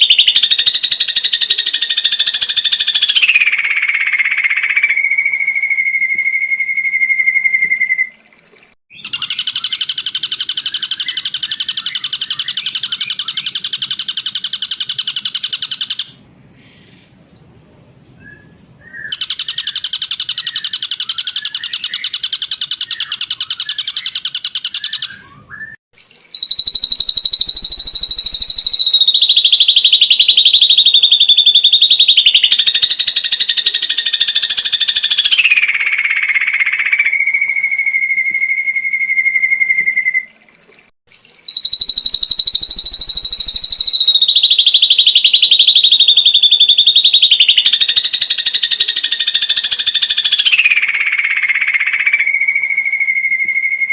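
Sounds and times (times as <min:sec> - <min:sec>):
bird whistling and trilling: 0:00.0 - 0:08.2, 0:08.9 - 0:16.2, 0:18.2 - 0:40.4, 0:41.5 - 0:53.9.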